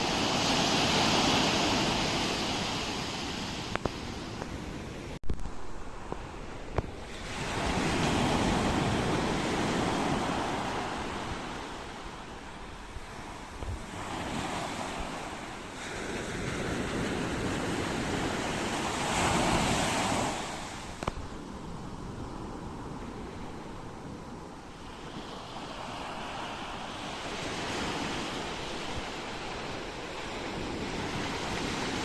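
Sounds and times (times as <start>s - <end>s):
ocean waves breaking: 0.0s - 32.0s
wind on microphone: 0.0s - 32.0s.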